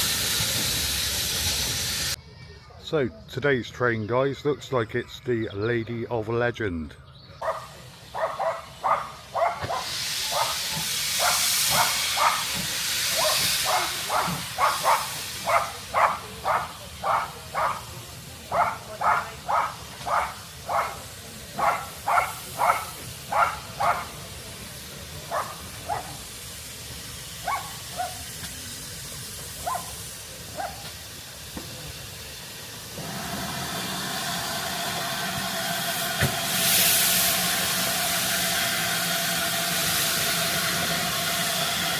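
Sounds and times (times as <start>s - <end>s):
steam locomotive hissing: 0.0s - 2.2s, 7.4s - 41.9s.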